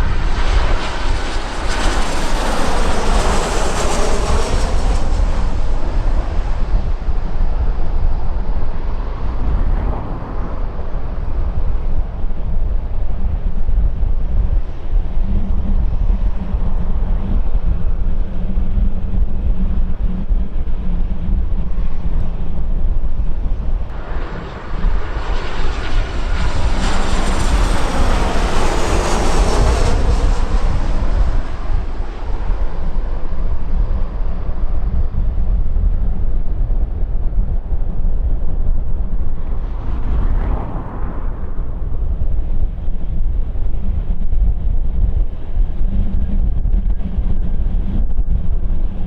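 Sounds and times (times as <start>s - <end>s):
jet engine rush: 0.0s - 49.0s
wind buffeting microphone: 0.0s - 49.0s.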